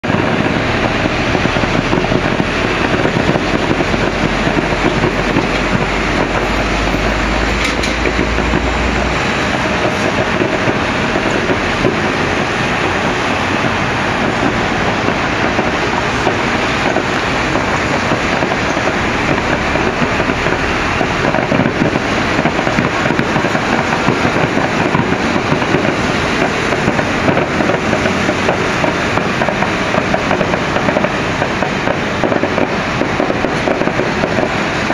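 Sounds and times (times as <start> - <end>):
fireworks crackling: 0.0 - 34.9.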